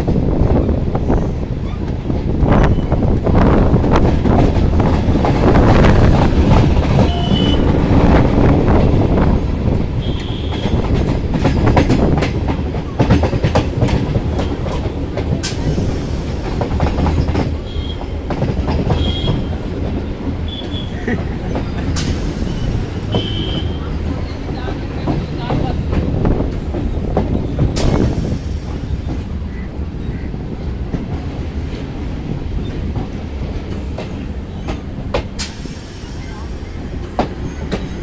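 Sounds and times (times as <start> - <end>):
train coach rumble: 0.0 - 38.0.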